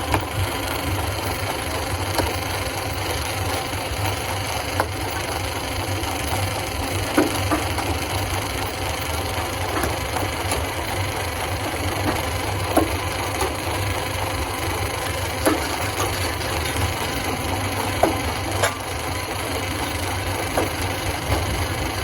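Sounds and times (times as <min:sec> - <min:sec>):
stone crushing machine droning: 0:00.0 - 0:22.0.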